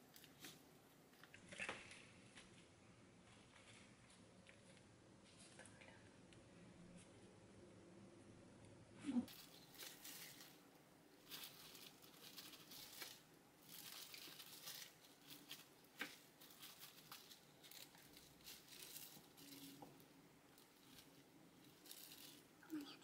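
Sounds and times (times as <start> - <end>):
plastic gloves crinkling: 0.0 - 5.7, 9.2 - 23.0.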